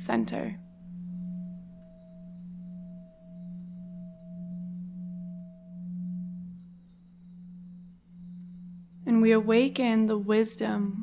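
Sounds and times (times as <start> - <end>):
low meditative drone tone: 0.6 - 10.3.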